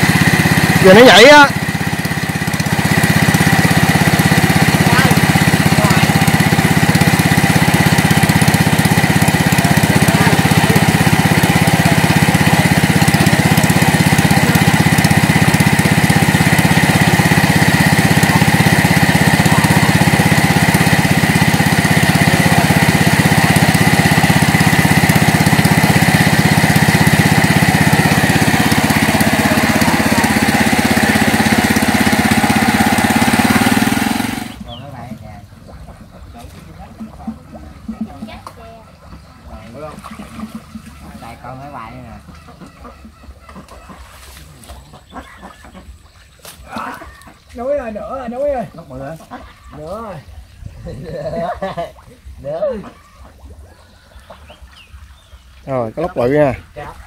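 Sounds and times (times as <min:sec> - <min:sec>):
petrol water pump running: 0:00.0 - 0:57.0.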